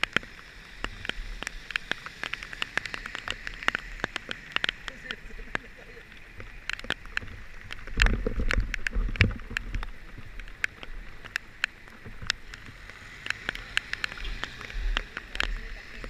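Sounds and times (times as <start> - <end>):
raindrops ticking on hard surface: 0.0 - 16.0.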